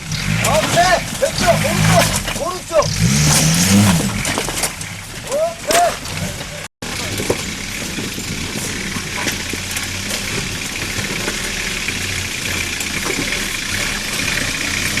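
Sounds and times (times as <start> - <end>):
jeep engine idling: 0.0 - 15.0.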